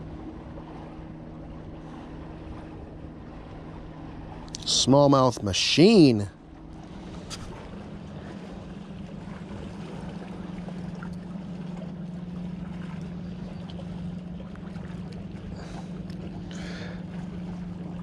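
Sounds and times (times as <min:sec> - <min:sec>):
motorboat engine humming: 0:00.0 - 0:18.0.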